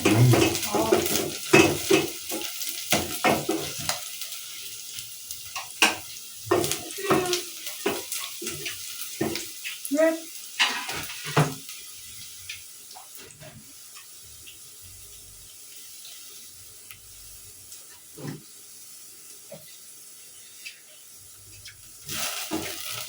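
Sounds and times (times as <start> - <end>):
food hissing on stove: 0.0 - 23.0.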